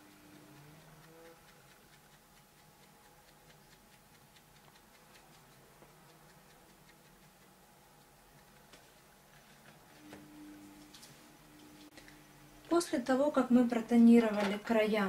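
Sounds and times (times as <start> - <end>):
sponge dabbing light ticks: 0.0 - 14.8
faint steady hum: 0.0 - 15.0.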